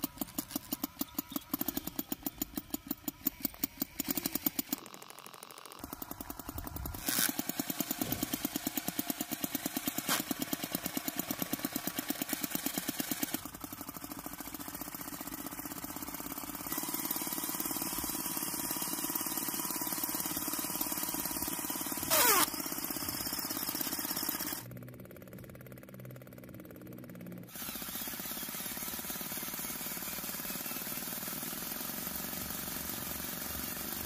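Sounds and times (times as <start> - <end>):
model tractor engine chugging: 0.0 - 34.0.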